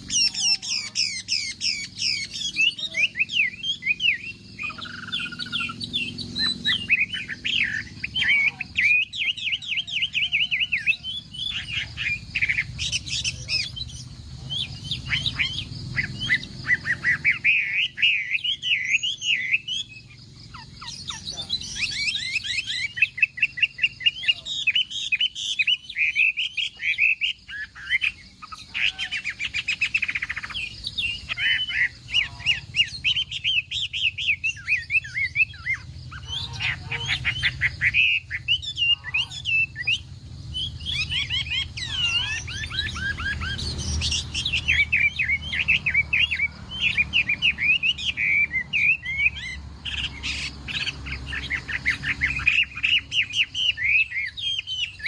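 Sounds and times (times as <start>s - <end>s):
bird singing whistled phrases: 0.0s - 55.0s.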